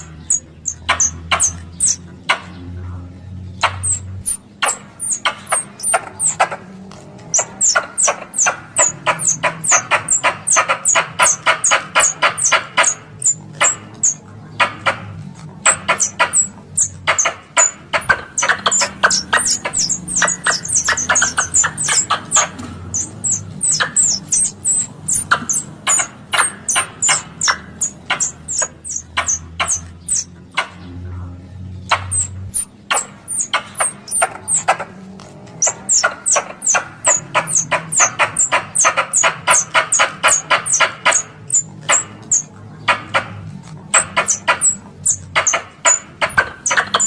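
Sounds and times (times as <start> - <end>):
sharp high chirping calls: 0.0 - 2.6, 3.5 - 30.9, 31.8 - 34.9, 35.5 - 47.0.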